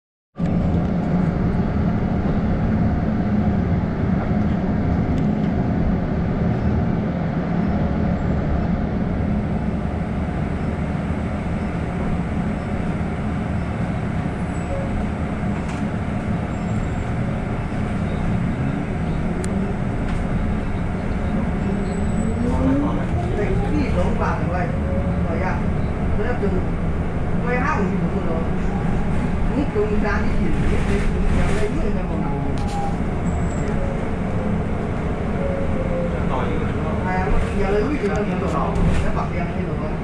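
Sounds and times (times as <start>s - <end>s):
bus drivetrain hum: 0.4s - 40.0s
road noise: 0.4s - 40.0s.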